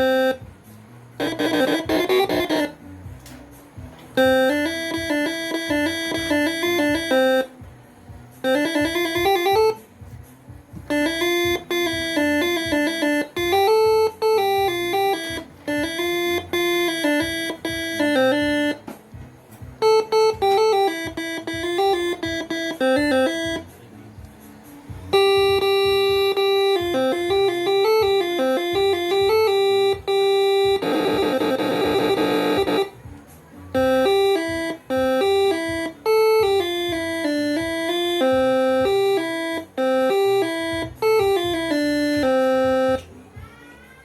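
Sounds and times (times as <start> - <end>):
air horn playing a tune: 1.2 - 2.8, 4.2 - 7.5, 8.4 - 9.8, 10.9 - 18.8, 19.8 - 23.7, 25.1 - 32.9, 33.7 - 43.0.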